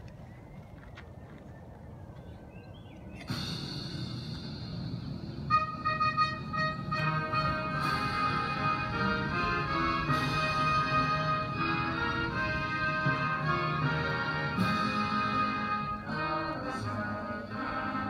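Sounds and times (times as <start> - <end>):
instrumental music over speaker: 3.3 - 18.0.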